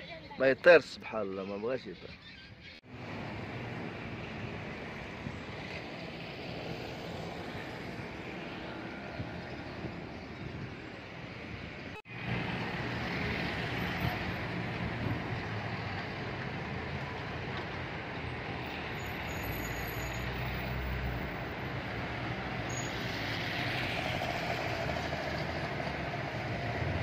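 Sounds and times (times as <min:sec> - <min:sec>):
cars and mopeds driving past: 0:02.9 - 0:27.0.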